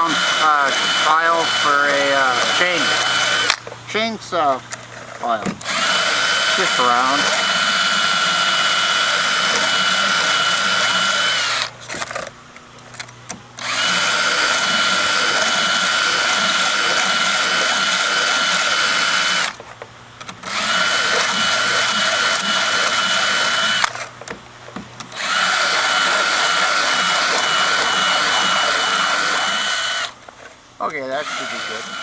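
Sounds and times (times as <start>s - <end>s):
cordless drill whining: 0.0s - 24.4s, 25.0s - 32.0s.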